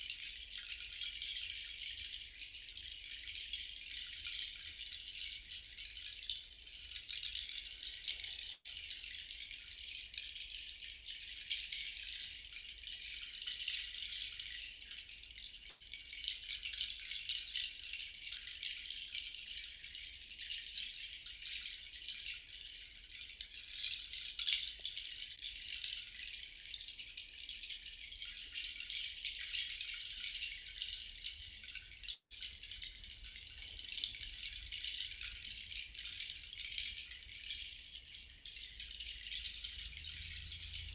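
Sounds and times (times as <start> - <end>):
handheld rattle shaking: 0.0 - 40.9.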